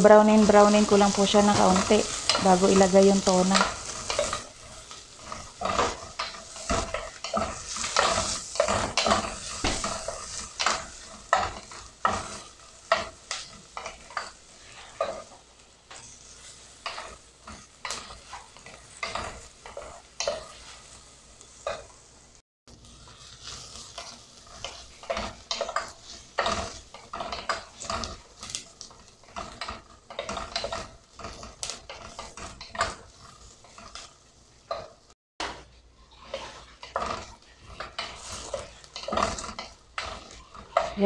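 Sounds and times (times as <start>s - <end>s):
wooden spatula scraping pot: 0.0s - 22.1s, 22.7s - 41.0s
onions sizzling: 0.0s - 41.0s.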